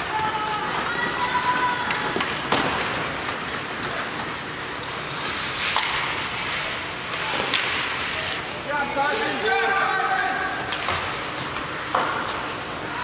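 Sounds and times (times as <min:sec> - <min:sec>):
skate blades scraping ice: 0:00.0 - 0:13.0.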